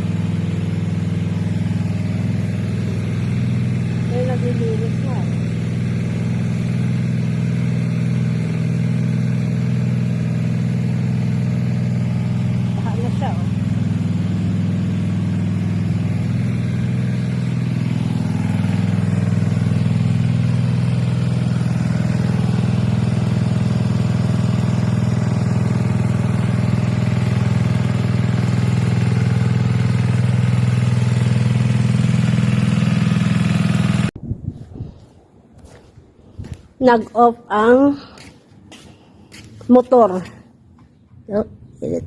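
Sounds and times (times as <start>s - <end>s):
engine water pump running: 0.0s - 34.2s.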